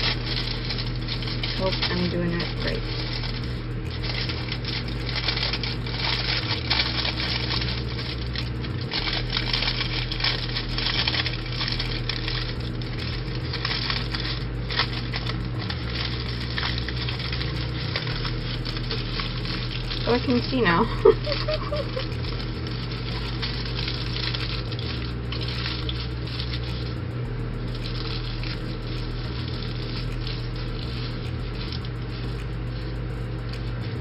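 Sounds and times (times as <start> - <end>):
aluminium foil crinkling: 0.0 - 34.0
steady low hum: 0.0 - 34.0.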